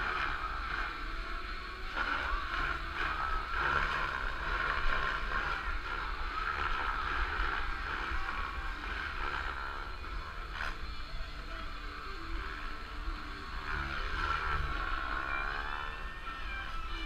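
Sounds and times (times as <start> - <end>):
model airplane motor buzzing: 0.0 - 17.0.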